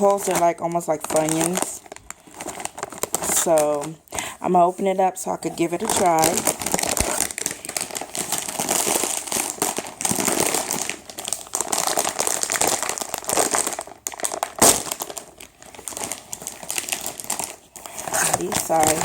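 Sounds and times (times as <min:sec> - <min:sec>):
plastic snack bag crinkling: 0:00.0 - 0:19.0.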